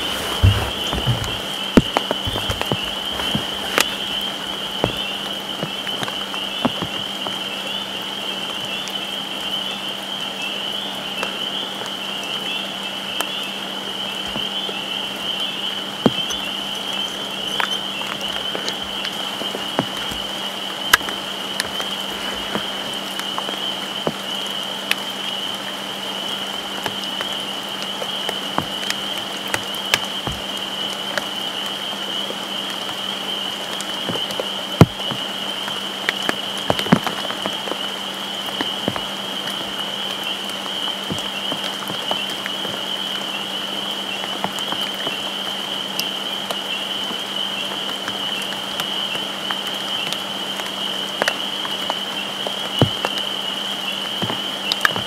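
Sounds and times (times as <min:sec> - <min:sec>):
frogs calling: 0:00.0 - 0:55.0
rain falling: 0:00.0 - 0:55.0.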